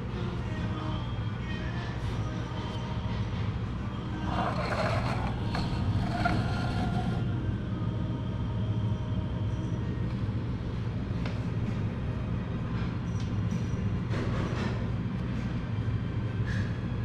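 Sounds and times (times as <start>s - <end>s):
low hum of room machinery: 0.0s - 17.0s.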